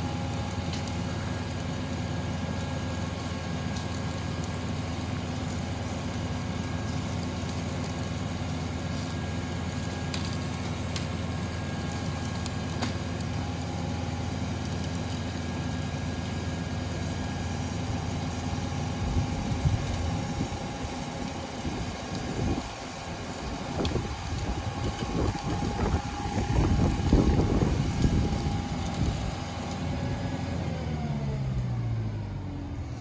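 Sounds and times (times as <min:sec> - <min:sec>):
diesel tractor engine running: 0:00.0 - 0:33.0.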